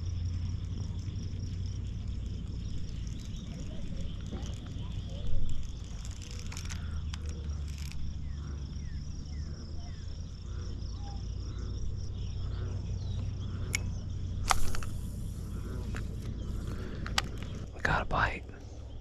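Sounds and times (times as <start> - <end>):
crickets chirping: 0.0 - 19.0
low rumble: 0.0 - 19.0
bird chirps: 1.7 - 19.0.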